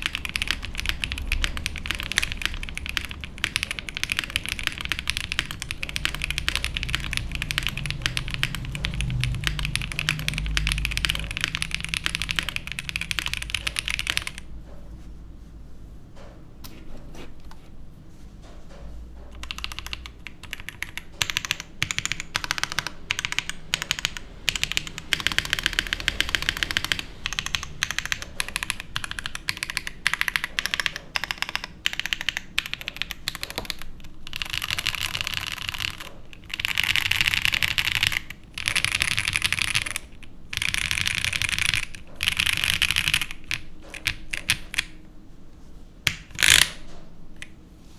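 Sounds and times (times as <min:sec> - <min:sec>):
mechanical keyboard key clacks: 0:00.0 - 0:14.5, 0:19.3 - 0:45.0, 0:46.1 - 0:47.5.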